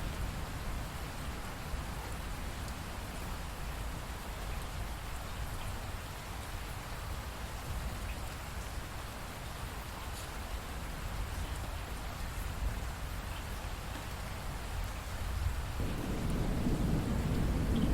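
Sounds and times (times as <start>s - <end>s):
rain falling: 0.0s - 17.9s.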